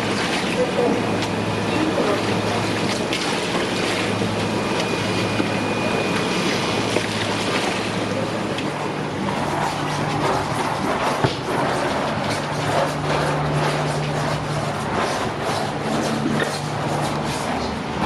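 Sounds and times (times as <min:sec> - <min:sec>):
pump hum: 0:00.0 - 0:18.0.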